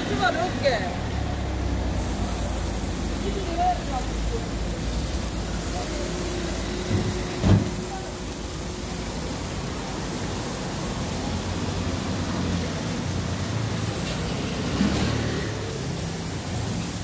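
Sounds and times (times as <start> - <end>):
cheese sizzling on a griddle: 0.0 - 17.0.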